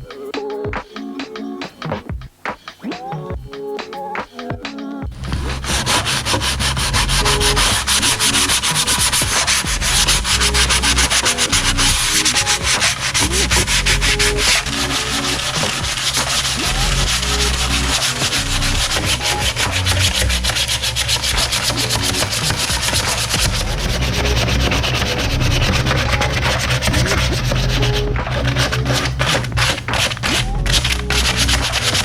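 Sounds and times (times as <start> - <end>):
sandpaper rubbing on wood: 5.2 - 32.0.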